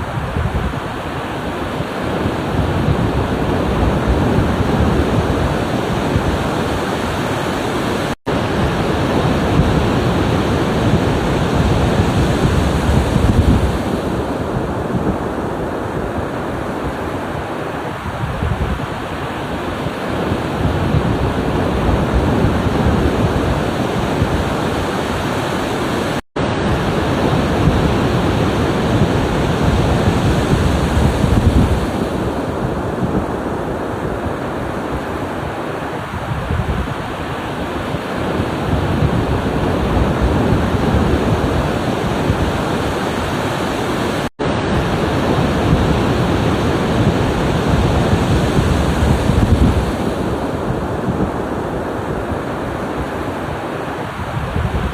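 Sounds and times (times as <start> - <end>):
ocean waves breaking: 0.0 - 54.9.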